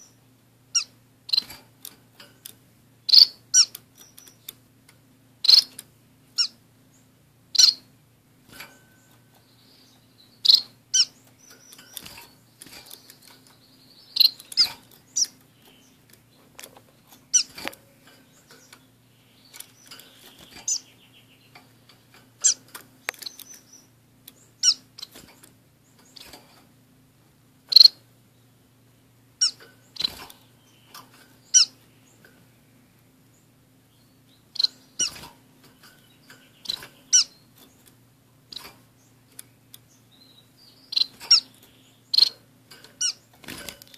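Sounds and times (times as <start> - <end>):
finches high-pitched calls: 0.0 - 1.7, 2.4 - 4.6, 5.4 - 7.9, 8.6 - 26.6, 27.7 - 28.0, 29.3 - 32.3, 33.3 - 43.9.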